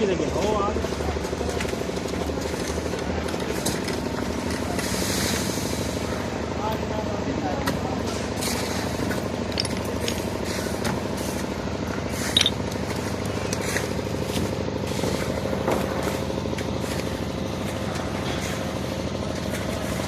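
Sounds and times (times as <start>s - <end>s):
engine running with even throb: 0.0s - 20.0s.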